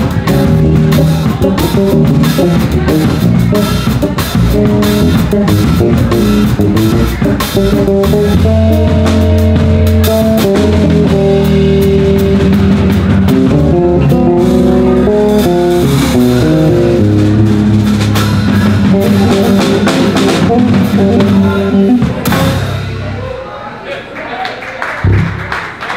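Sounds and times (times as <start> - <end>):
drum kit: 0.0 - 23.3
electric bass melody: 0.0 - 23.4
low bass line: 0.0 - 23.4.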